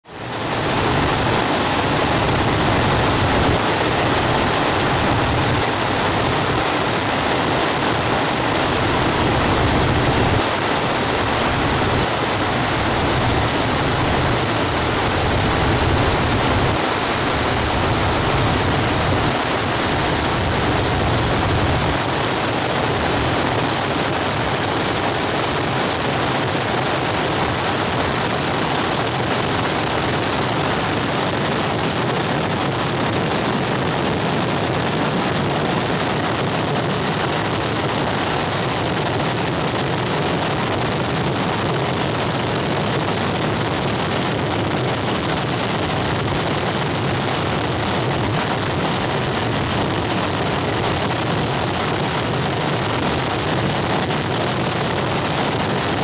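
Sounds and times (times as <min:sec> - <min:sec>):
aircraft cabin engine noise: 0:00.0 - 0:56.0.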